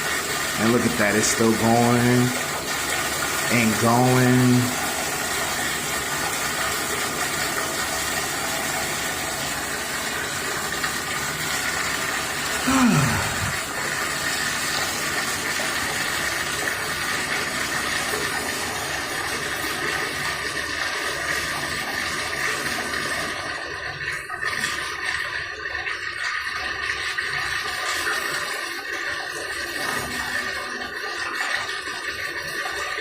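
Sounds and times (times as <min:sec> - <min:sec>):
toilet flushing water rushing: 0:00.0 - 0:33.0.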